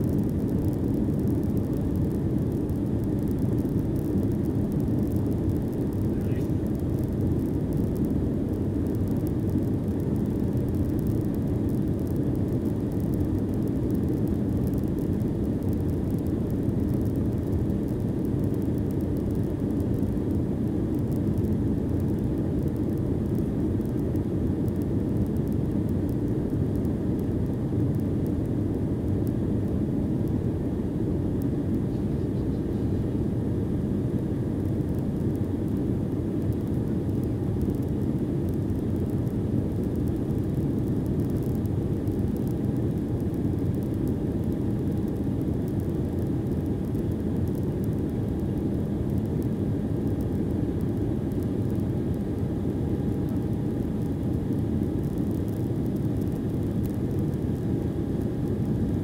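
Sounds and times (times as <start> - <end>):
aircraft cabin engine noise: 0.0 - 59.0
faint steady whine: 0.0 - 59.0.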